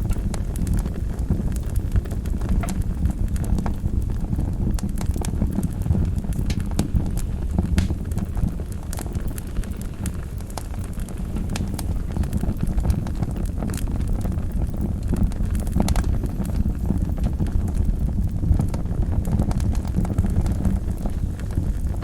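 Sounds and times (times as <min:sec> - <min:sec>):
fire flames rumbling: 0:00.0 - 0:22.0
wood fire crackling and popping: 0:00.0 - 0:22.0.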